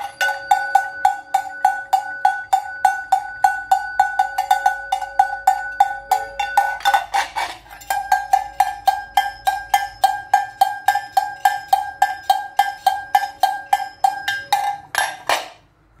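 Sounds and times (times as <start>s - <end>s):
metal livestock bells clanging: 0.0s - 15.4s.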